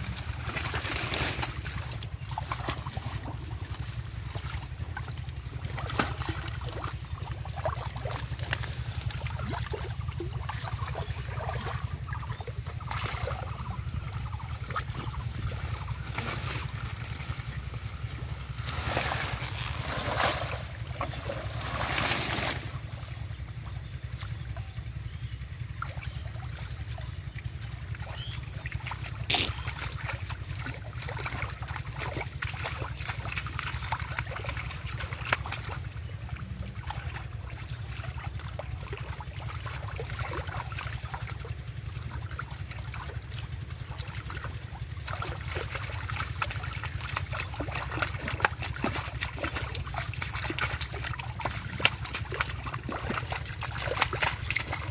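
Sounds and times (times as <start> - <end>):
low rumble: 0.0 - 54.9
muddy water splashing: 0.0 - 54.9.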